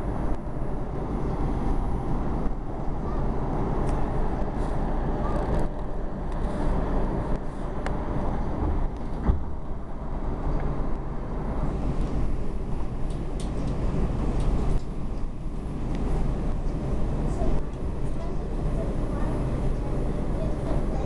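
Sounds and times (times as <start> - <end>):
subway train wheels rumbling: 0.0 - 21.0.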